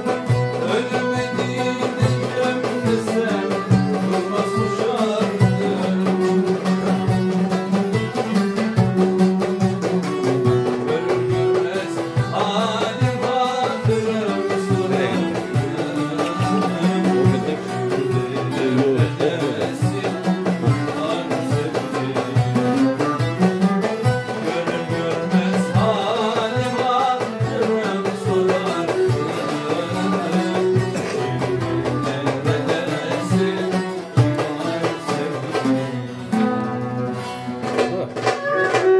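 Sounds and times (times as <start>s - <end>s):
folk music on strings: 0.0s - 38.9s
goblet drum steady beat: 0.0s - 38.9s
plucked lutes: 0.0s - 38.9s
violin bowed: 0.0s - 38.9s.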